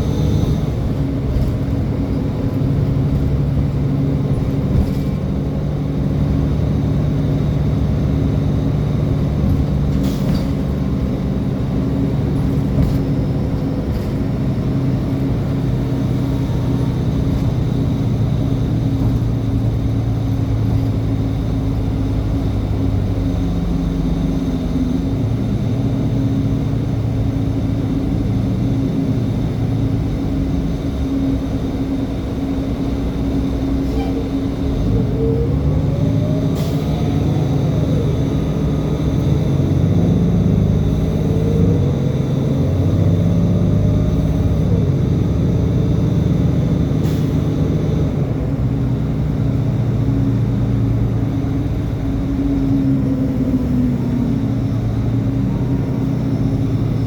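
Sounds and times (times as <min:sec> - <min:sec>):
transmission whine: 0:00.0 - 0:14.1, 0:14.8 - 0:57.0
diesel bus engine running: 0:00.0 - 0:57.0.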